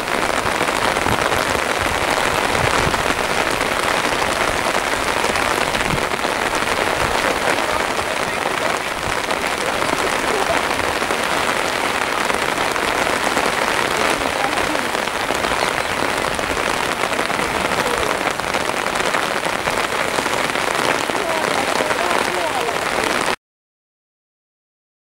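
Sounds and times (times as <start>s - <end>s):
steady rain pattering: 0.0s - 23.4s.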